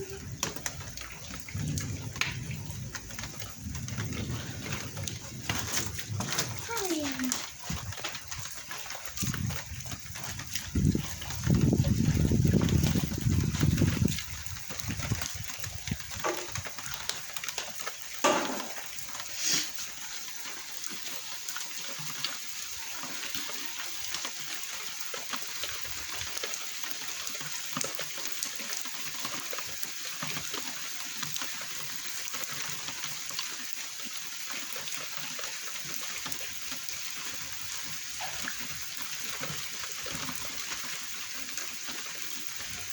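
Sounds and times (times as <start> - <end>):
steady rain hissing: 0.0 - 42.9.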